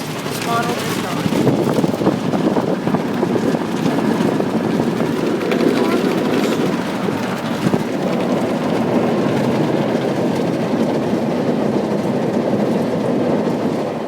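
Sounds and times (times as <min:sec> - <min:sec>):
car wash water rushing: 0:00.0 - 0:14.0.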